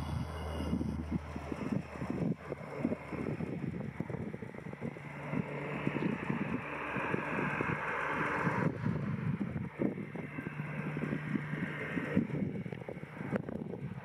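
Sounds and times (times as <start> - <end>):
propeller drone: 0.0 - 14.0
rushing turbine noise: 0.0 - 14.0
wind buffeting microphone: 0.0 - 14.0.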